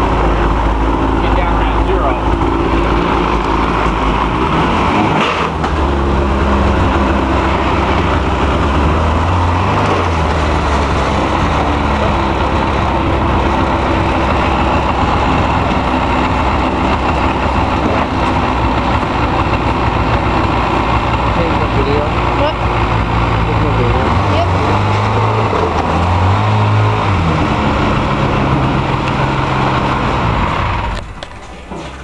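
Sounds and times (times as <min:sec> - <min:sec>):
snowmobile engine running: 0:00.0 - 0:32.0.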